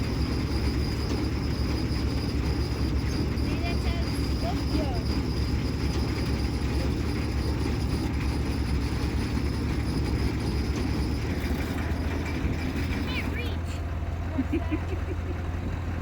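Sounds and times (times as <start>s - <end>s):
heavy machinery engine droning: 0.0s - 16.0s.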